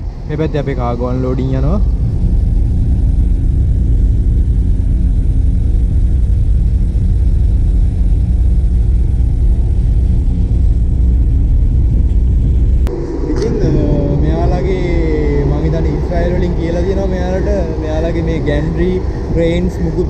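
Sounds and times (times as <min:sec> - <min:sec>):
low machinery rumble: 0:00.0 - 0:20.0.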